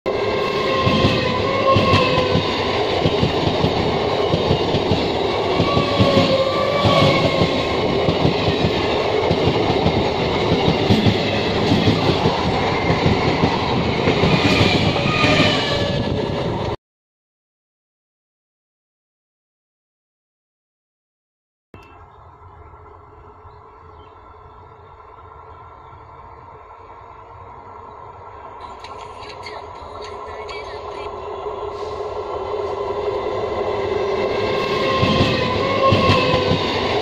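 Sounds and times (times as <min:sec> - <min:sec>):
train wheels rumbling on rails: 0:00.1 - 0:16.8, 0:21.9 - 0:37.0.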